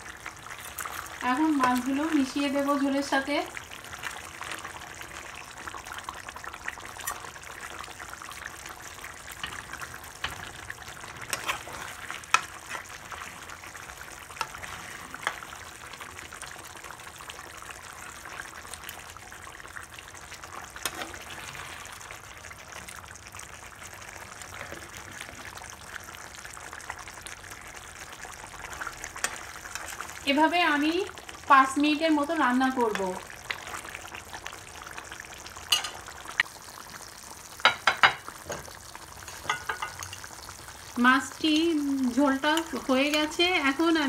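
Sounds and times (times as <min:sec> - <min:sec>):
curry simmering and sizzling: 0:00.0 - 0:44.0.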